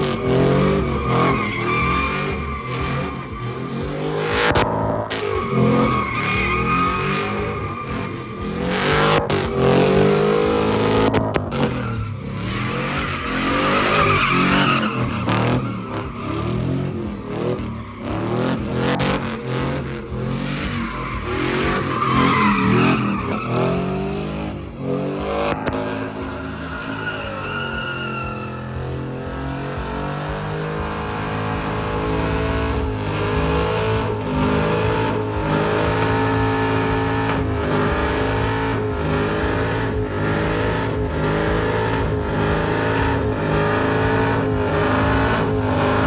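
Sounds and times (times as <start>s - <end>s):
truck engine revving: 0.0s - 46.0s
tyres squealing and skidding: 0.0s - 46.0s.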